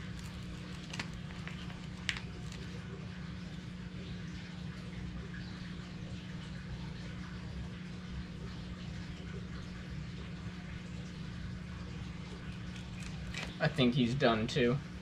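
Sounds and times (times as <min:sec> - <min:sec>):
low hum with faint hiss: 0:00.0 - 0:15.0.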